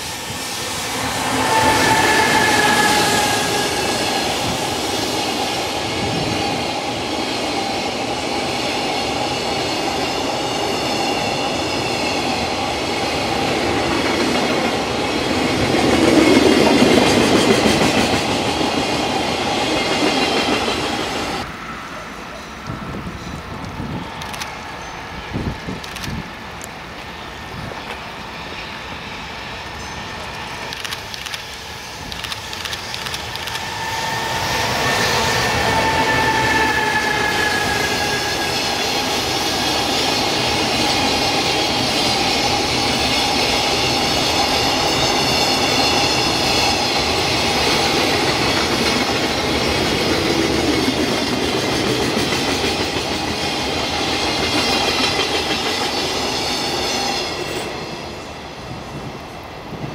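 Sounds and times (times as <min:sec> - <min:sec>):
locomotive whine: 0:00.0 - 0:59.9.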